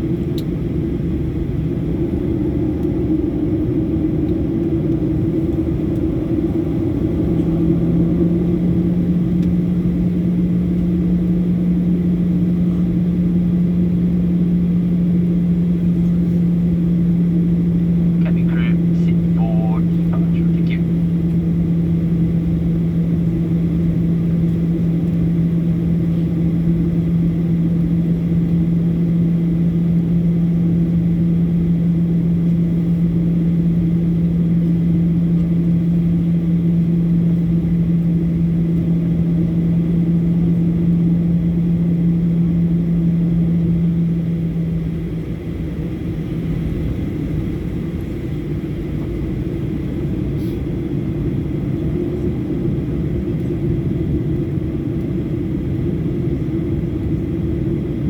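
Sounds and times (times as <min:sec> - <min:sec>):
constant low hum: 0:00.0 - 0:58.0
jet engine cabin rumble: 0:00.0 - 0:58.0.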